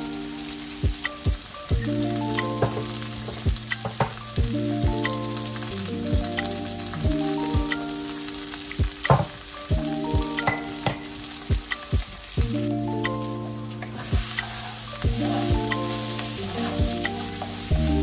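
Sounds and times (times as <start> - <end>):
background music with steady beat: 0.0 - 18.0
onions sizzling in oil: 0.0 - 18.0.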